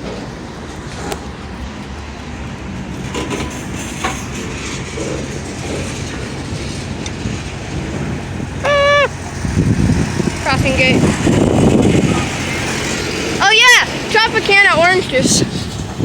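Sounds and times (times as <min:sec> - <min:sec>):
freight train rumbling past: 0:00.0 - 0:16.0
wheel clacks over rail joints: 0:00.0 - 0:16.0.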